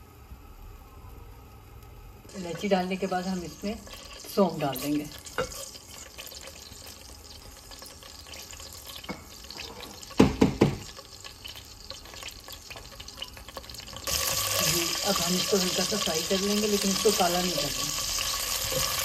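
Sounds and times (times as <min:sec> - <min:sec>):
seeds hissing in hot oil: 0:02.2 - 0:19.0
loud sizzling hiss: 0:02.3 - 0:19.0.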